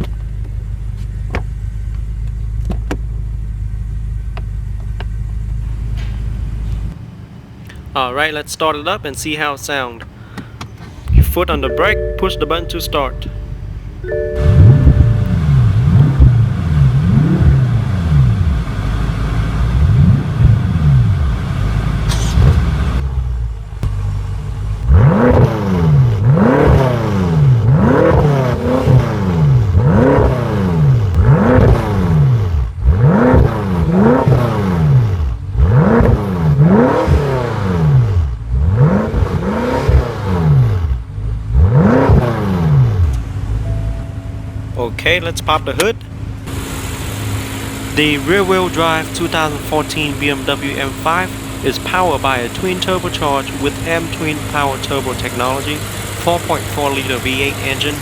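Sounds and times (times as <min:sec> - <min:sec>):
car engine revving in blips: 0:04.2 - 0:09.2, 0:09.8 - 0:58.0.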